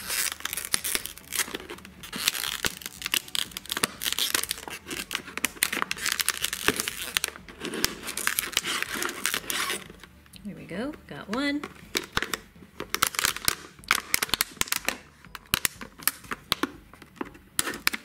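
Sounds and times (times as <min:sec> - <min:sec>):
plastic bottle crinkling: 0:00.0 - 0:18.0.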